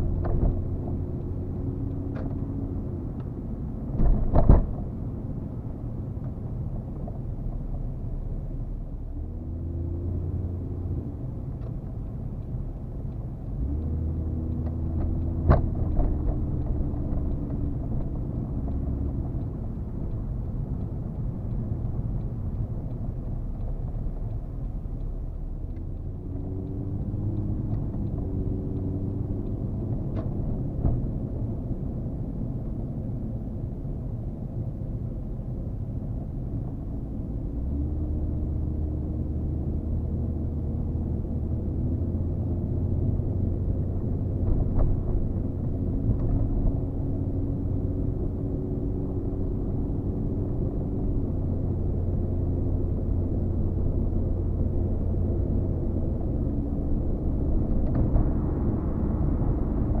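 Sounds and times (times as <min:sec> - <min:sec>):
car engine drone: 0:00.0 - 1:00.0
road noise: 0:00.0 - 1:00.0.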